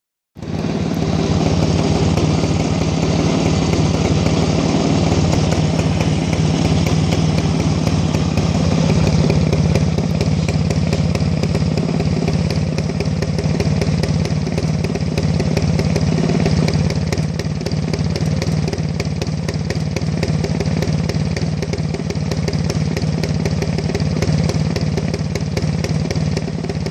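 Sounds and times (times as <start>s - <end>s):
motorcycle engine idling: 0.4s - 26.9s.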